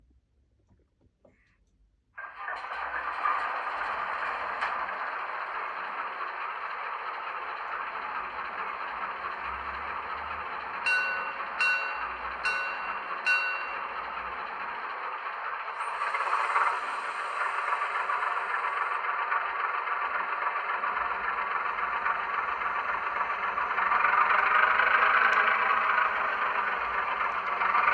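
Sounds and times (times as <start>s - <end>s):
model train diesel engine sound: 2.2s - 27.9s.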